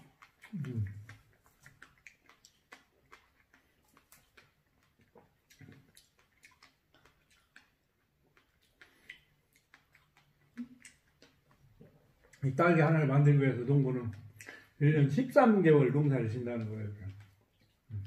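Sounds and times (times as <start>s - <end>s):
people chewing: 0.0s - 18.0s.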